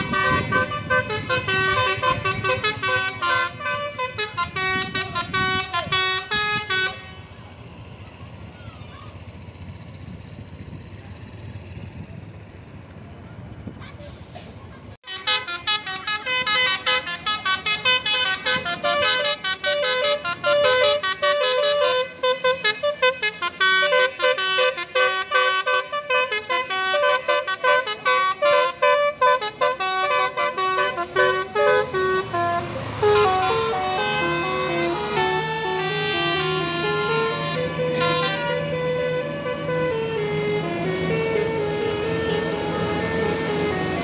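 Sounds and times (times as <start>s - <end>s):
bus horn playing a fast melody: 0.0s - 7.9s, 15.0s - 44.0s.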